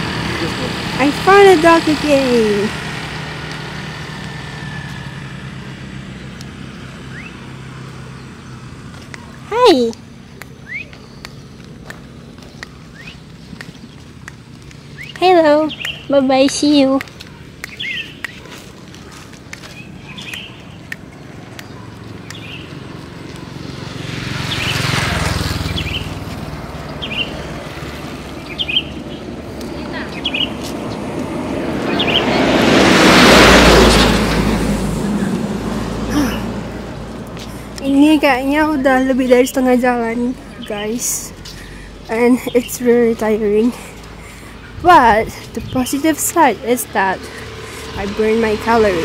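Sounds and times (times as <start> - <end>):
passing vehicle engine hum: 0.0 - 49.0.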